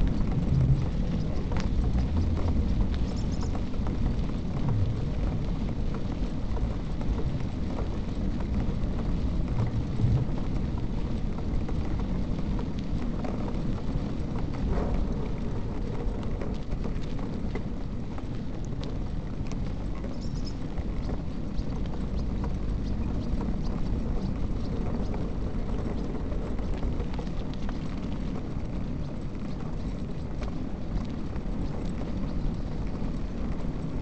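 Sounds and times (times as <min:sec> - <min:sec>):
tyre and wind rumble: 0:00.0 - 0:34.0.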